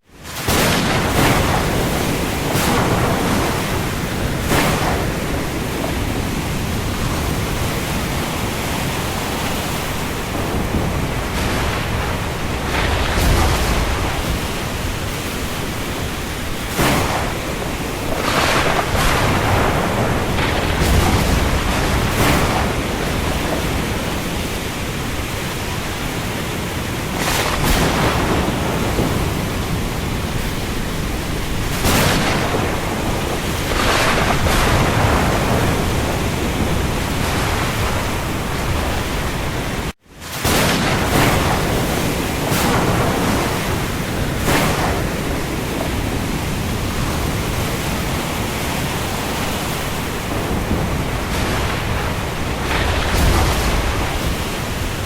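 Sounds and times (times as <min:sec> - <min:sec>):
heavy rain hiss: 0:00.0 - 0:55.0
waves: 0:00.0 - 0:55.0
wind gusts: 0:00.0 - 0:55.0.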